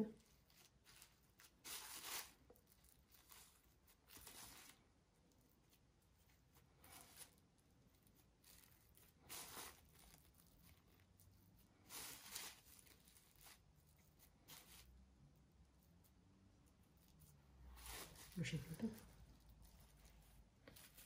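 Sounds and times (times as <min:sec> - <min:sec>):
hands rustling dough: 0:00.0 - 0:21.0.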